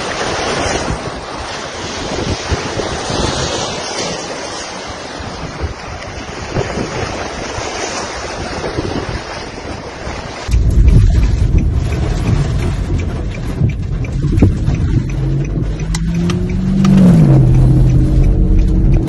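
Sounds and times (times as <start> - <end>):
storm wind and water rushing: 0.0 - 19.0
wind buffeting microphone: 0.0 - 19.0.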